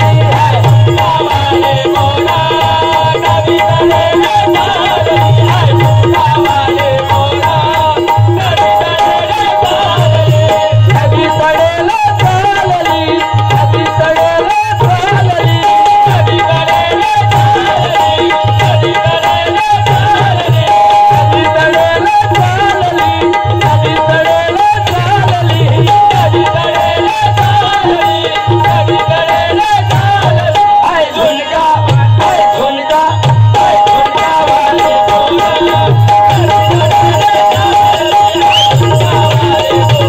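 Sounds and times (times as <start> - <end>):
fast hand drum rhythm: 0.0 - 40.0
harmonium melody: 0.0 - 40.0.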